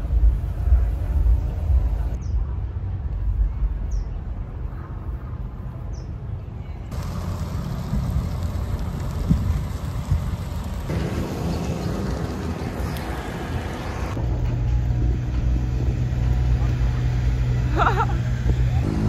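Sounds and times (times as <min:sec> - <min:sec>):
bicycle road noise: 0:00.0 - 0:19.0
wind rumbling on microphone: 0:00.0 - 0:19.0.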